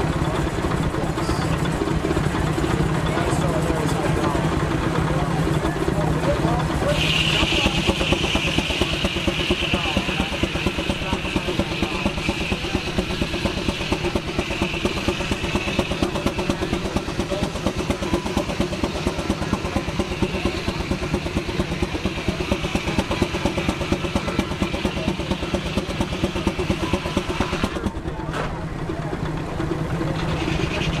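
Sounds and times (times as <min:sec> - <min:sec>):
steam engine exhaust chuffing: 0:00.0 - 0:31.0.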